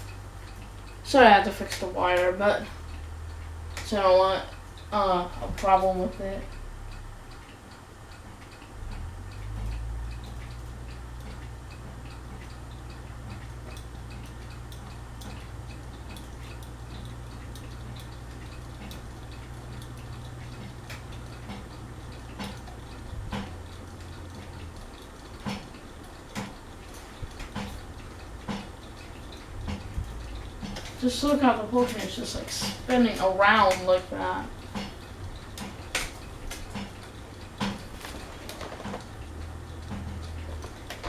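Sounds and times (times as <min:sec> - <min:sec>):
ceiling fan motor hum: 0:00.0 - 0:41.0
light ticking: 0:00.0 - 0:41.0
wobbling fan clicks and knocks: 0:00.0 - 0:41.0.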